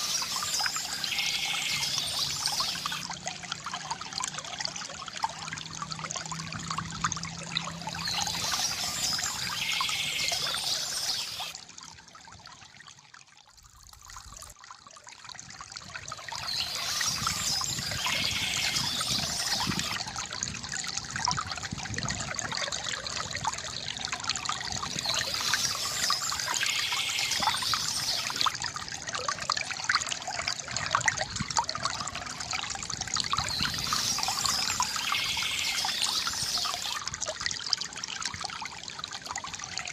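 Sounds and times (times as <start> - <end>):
water trickling from fountain: 0.0 - 39.9.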